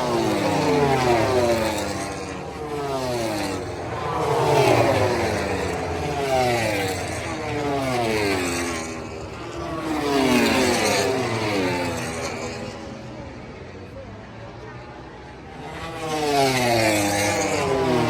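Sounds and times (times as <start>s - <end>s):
racing motorcycles passing at speed: 0.0s - 18.0s.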